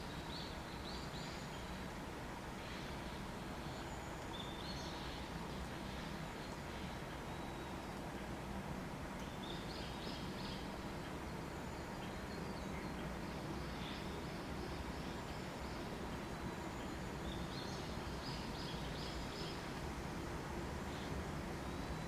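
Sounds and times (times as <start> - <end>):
low background rush: 0.0 - 22.0.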